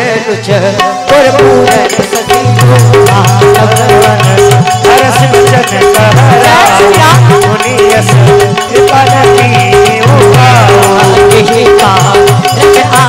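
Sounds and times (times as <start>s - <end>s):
dholak drum beating: 0.0s - 13.0s
person singing: 0.0s - 13.0s.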